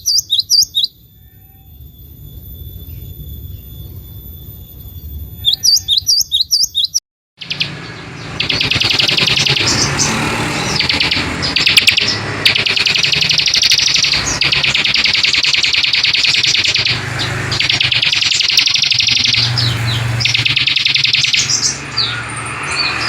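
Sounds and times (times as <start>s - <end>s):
bird trilled bursts: 0.0s - 23.0s
bird whistled notes: 0.0s - 23.0s.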